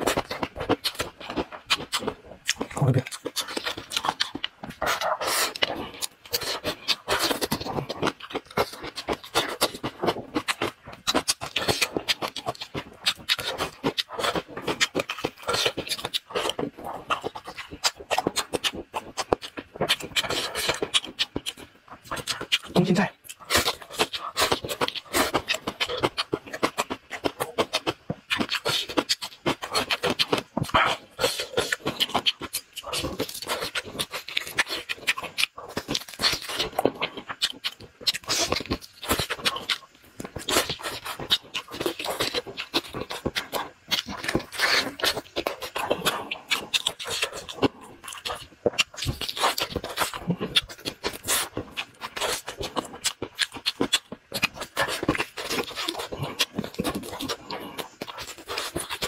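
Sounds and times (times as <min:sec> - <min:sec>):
person chewing and slurping: 0:00.0 - 0:59.0.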